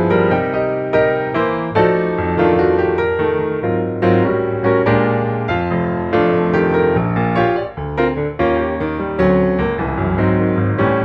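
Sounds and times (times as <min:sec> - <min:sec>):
background piano music: 0:00.0 - 0:11.0.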